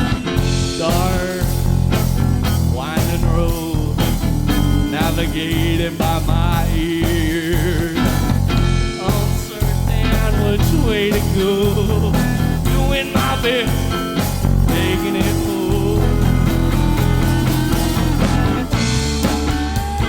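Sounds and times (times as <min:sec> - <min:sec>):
bass guitar: 0:00.0 - 0:20.0
drums: 0:00.0 - 0:20.0
wavering lead guitar: 0:00.0 - 0:20.0.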